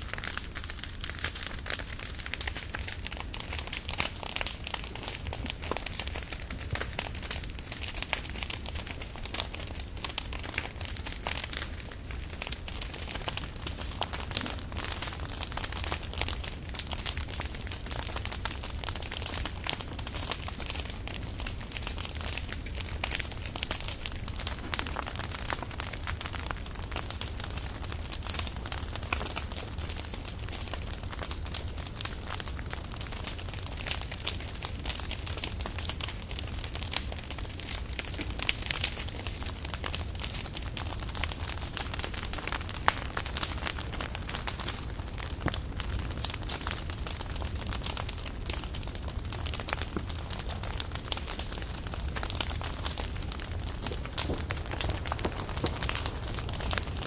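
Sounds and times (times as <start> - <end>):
fire crackling and popping: 0.0 - 57.0
low rumble of fire: 0.0 - 57.0.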